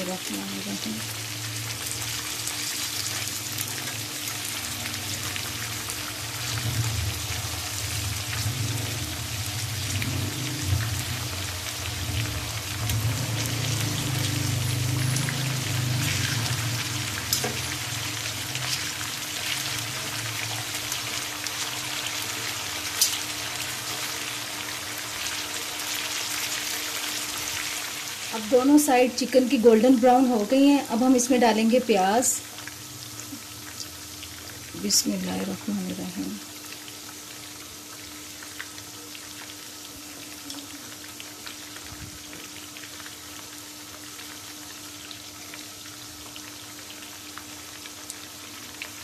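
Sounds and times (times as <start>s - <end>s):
chicken sizzling in hot oil: 0.0s - 49.0s.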